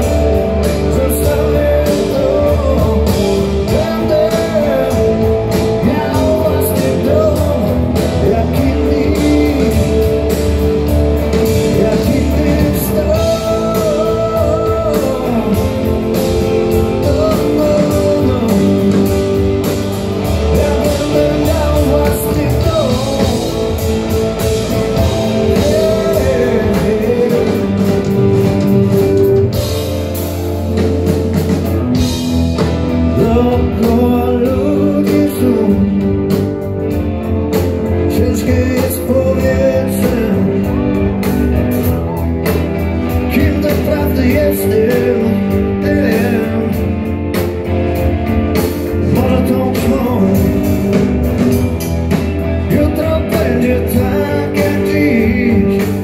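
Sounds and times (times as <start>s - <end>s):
person singing lead vocal: 0.0s - 30.1s, 32.0s - 56.0s
drum kit: 0.0s - 56.0s
electric guitars: 0.0s - 56.0s.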